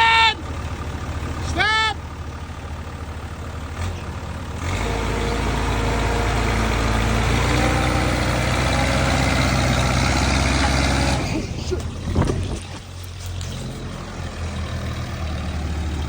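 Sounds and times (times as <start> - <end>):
loader diesel engine revving: 0.0 - 16.0.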